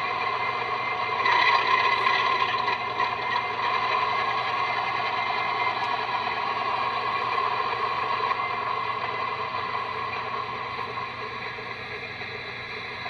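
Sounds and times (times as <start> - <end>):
buzzy diesel engine idling: 0.0 - 13.0.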